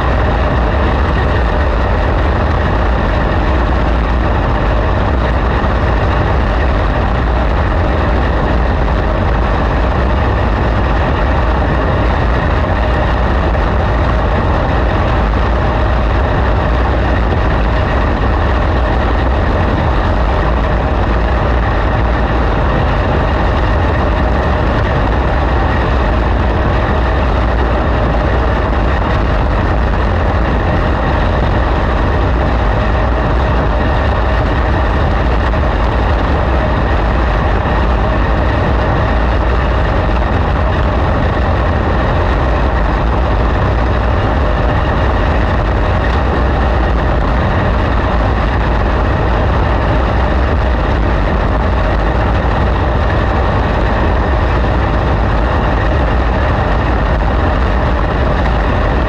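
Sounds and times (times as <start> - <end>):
race car engine drone: 0.0 - 59.0
wind rush: 0.0 - 59.0.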